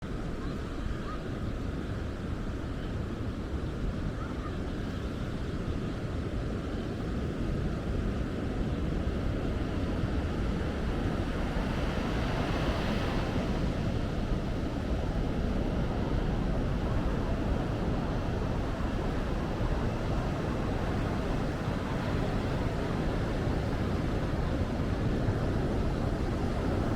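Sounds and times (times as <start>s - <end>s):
wind on microphone: 0.0s - 26.9s
ocean surf on beach: 0.1s - 26.9s.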